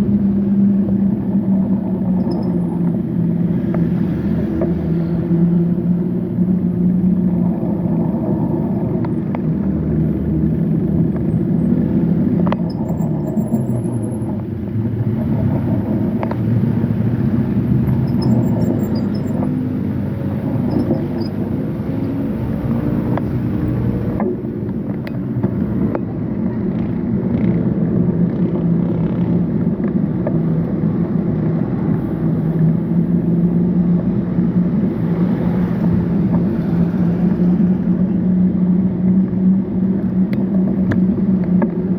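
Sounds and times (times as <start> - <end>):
traffic engines rumbling: 0.0 - 41.9.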